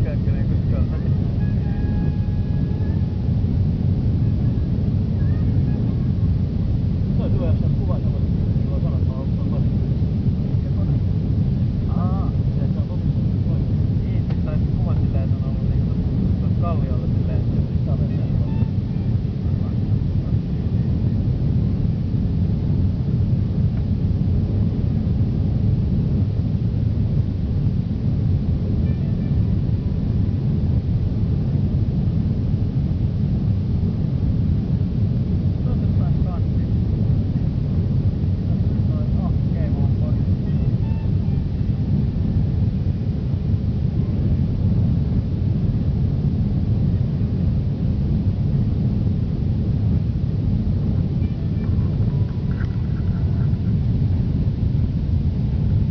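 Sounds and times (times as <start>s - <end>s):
airplane cabin takeoff rumble: 0.0s - 55.9s.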